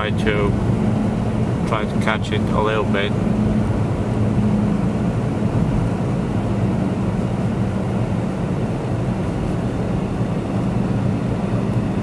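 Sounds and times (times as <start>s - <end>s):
car engine humming: 0.0s - 12.0s
low rumble: 0.0s - 12.0s.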